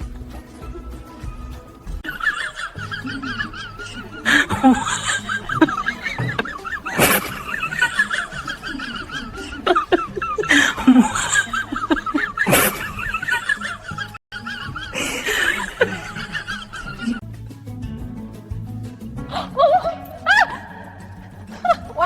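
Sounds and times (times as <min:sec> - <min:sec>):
people laughing: 0:00.0 - 0:17.2, 0:19.3 - 0:22.0.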